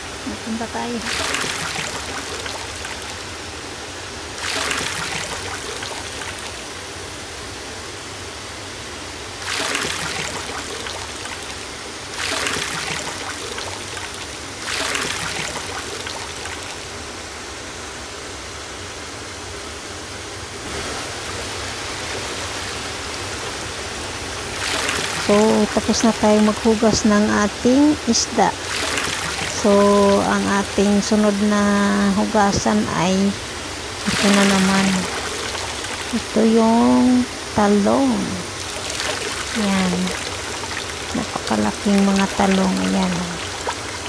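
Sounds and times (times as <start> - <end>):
water sloshing and splashing: 0.8 - 7.0, 9.4 - 17.1, 20.7 - 44.0.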